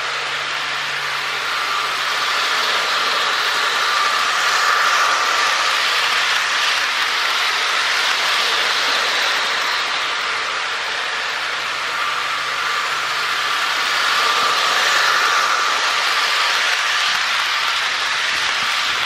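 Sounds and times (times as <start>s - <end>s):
model train motors whirring: 0.0s - 19.0s.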